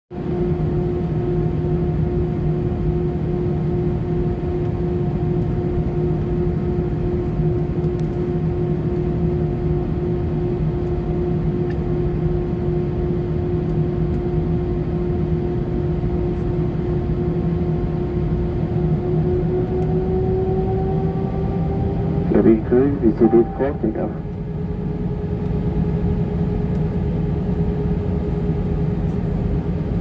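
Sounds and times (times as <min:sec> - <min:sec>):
engine drone: 0:00.2 - 0:30.0.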